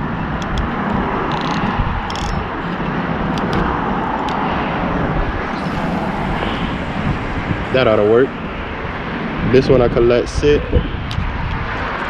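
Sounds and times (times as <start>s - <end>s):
highway traffic noise: 0.0s - 12.0s
wind rumble on microphone: 0.0s - 12.0s.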